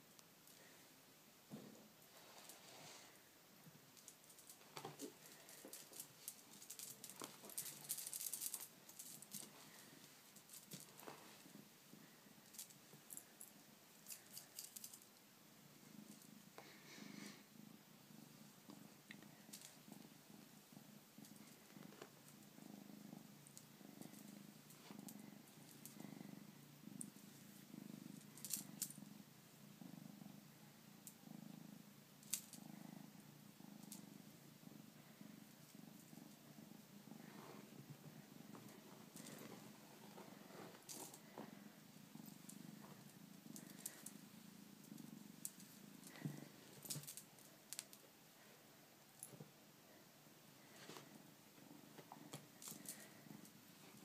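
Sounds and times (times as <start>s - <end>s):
kitten purring: 0.0s - 54.0s.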